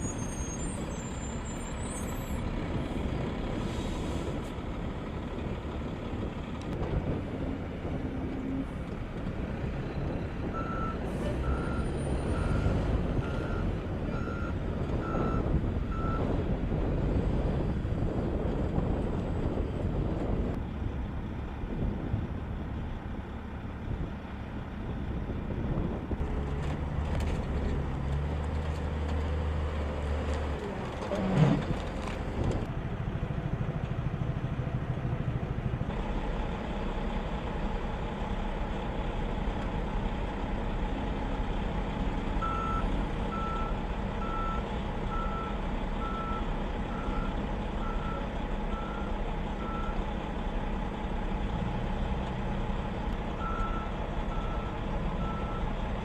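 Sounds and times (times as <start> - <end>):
vehicle engine noise: 0.0 - 56.0.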